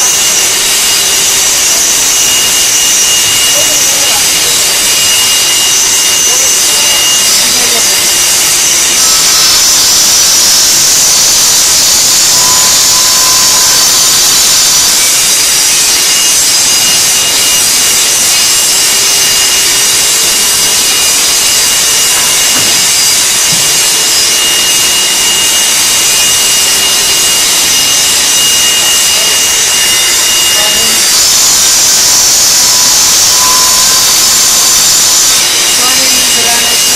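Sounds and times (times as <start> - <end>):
faint steady whine: 0.0 - 36.9
stone saw hissing through stone: 0.0 - 36.9.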